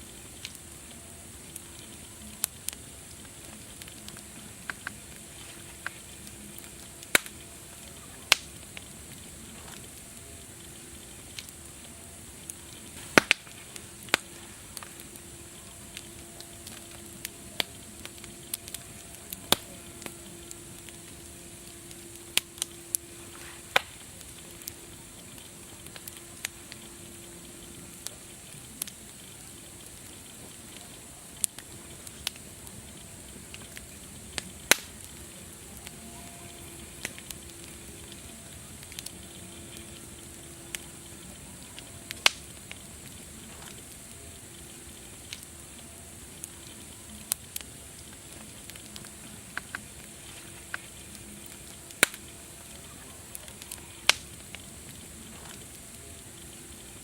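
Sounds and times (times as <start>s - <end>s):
steady hiss: 0.0s - 57.0s
wood fire crackling: 0.0s - 57.0s.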